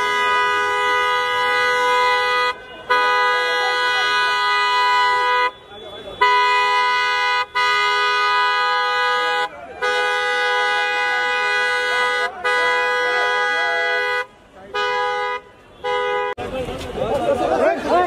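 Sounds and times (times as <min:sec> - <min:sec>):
car horn honking: 0:00.0 - 0:16.5
faint crowd voices: 0:02.5 - 0:07.8, 0:08.4 - 0:18.0.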